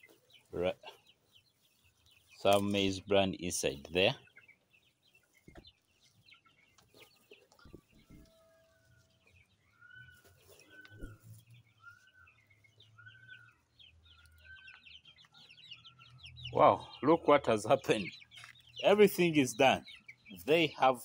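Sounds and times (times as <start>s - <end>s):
chicken calling: 3.2s - 21.0s.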